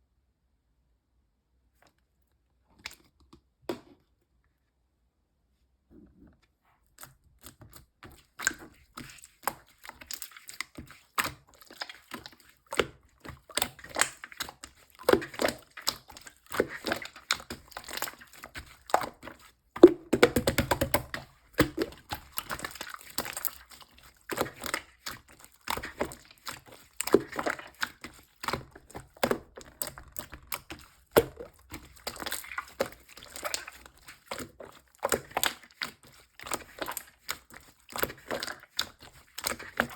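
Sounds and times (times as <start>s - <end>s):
slime squished by hand: 7.0s - 39.9s.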